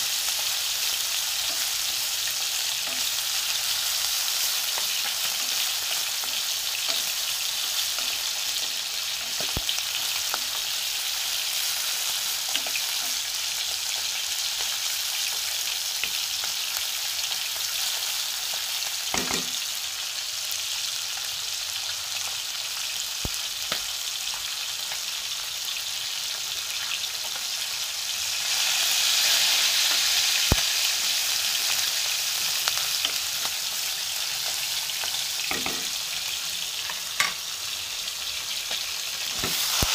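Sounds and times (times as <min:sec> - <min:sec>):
onion sizzling in hot oil: 0:00.0 - 0:39.9.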